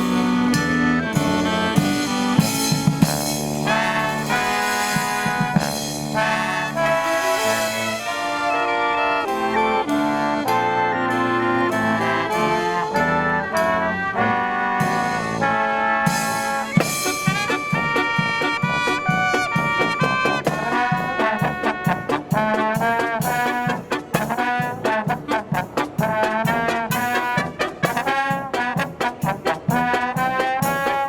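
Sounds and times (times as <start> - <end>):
brass marching band playing: 0.0 - 31.0
drums: 0.0 - 31.0.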